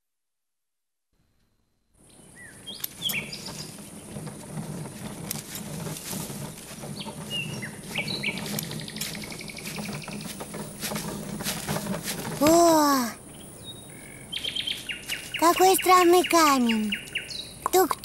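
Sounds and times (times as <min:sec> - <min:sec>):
birds chirping: 0:02.0 - 0:18.0.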